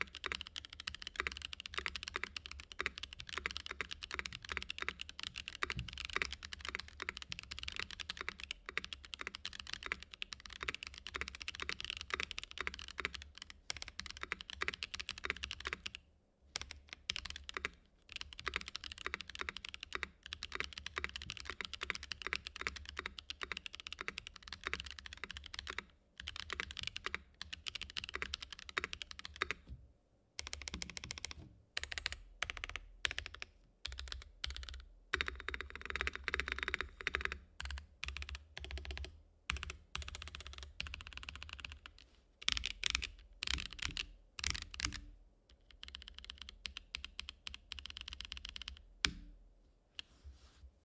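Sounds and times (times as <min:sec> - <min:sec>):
mechanical keyboard typing: 0:00.0 - 0:16.0, 0:16.6 - 0:29.6, 0:30.4 - 0:49.2.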